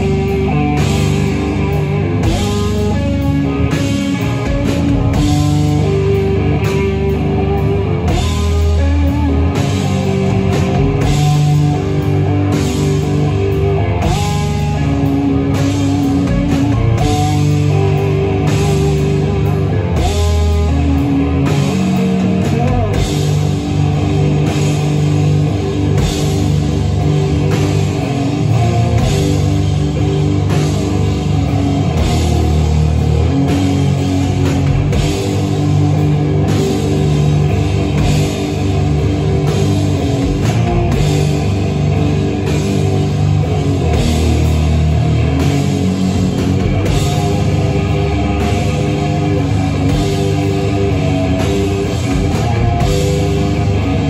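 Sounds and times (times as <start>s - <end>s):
drum and cymbal hits: 0.0s - 54.0s
live rock band playing: 0.0s - 54.0s.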